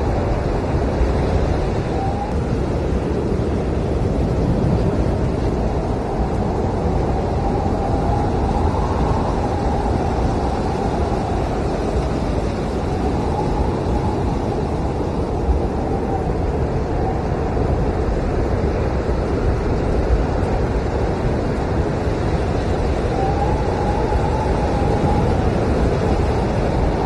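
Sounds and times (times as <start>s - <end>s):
blizzard wind howling: 0.0s - 27.0s.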